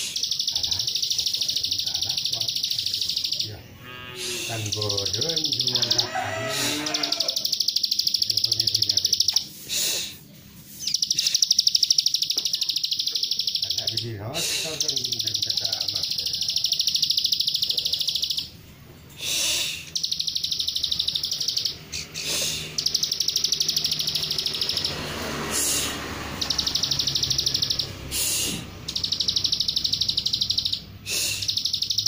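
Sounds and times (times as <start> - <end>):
bird song with buzzy trills: 0.0 - 32.0.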